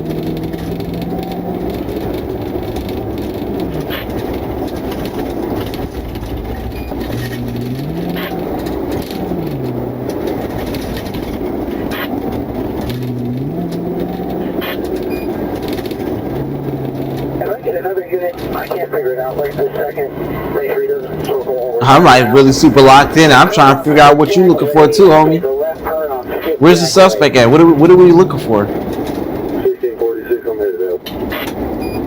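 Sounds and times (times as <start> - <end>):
car engine: 0.0 - 29.7
road noise: 0.0 - 32.0.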